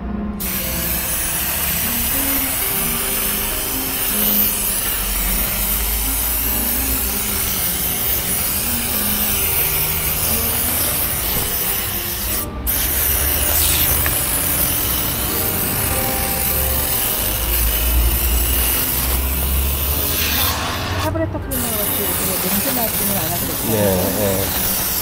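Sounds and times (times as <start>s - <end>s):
light background music: 0.0s - 25.0s
spray cleaner hissing: 0.4s - 25.0s.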